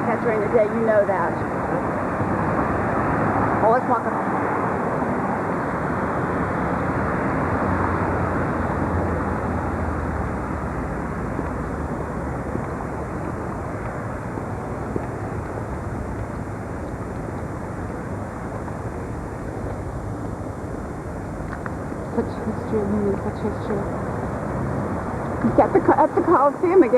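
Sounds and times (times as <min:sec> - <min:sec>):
city street traffic rumble: 0:00.0 - 0:26.9.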